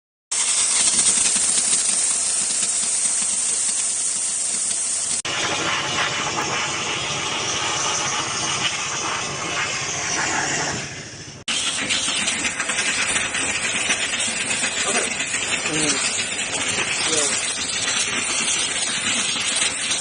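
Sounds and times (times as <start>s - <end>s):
steam cleaner hissing: 0.3s - 20.0s.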